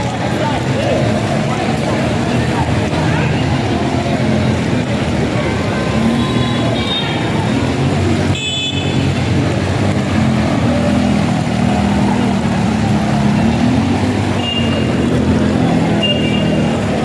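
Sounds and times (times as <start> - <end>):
traffic engines running: 0.0 - 17.0.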